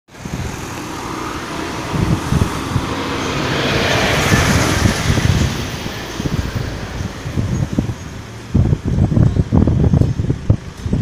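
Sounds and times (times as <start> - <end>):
lorry passing: 0.1 - 9.2
cars going by: 0.1 - 11.0.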